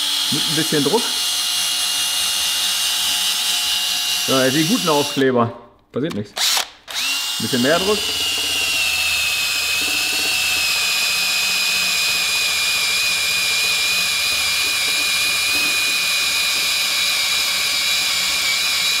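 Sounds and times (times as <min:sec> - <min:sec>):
drill motor whine: 0:00.0 - 0:05.2, 0:06.4 - 0:19.0.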